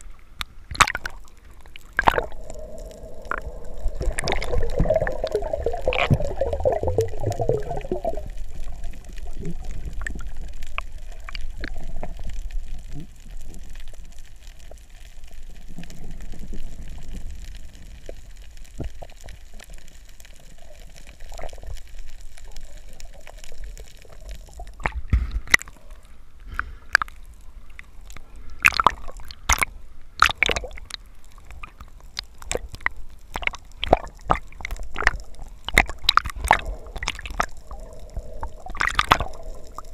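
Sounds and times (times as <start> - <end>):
sharp underwater clicks: 0.0 - 14.8, 15.6 - 39.9
underwater rumbling and bubbling: 0.0 - 39.9.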